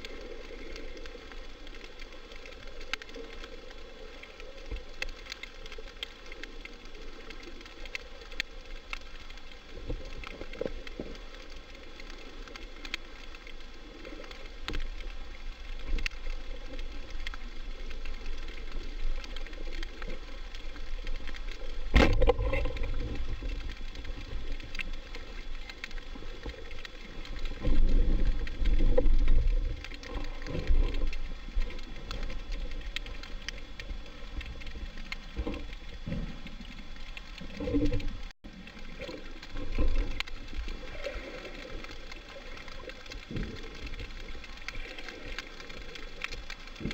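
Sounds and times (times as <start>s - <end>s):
low rumbling water movement: 0.0s - 46.9s
underwater fine crackling: 0.0s - 46.9s.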